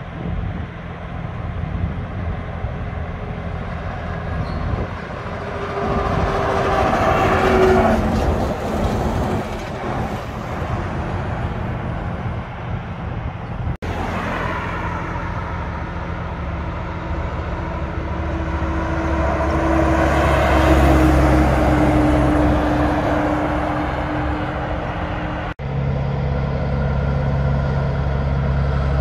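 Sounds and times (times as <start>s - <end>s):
diesel engine drone: 0.0s - 29.0s
trucks passing on highway: 0.0s - 29.0s.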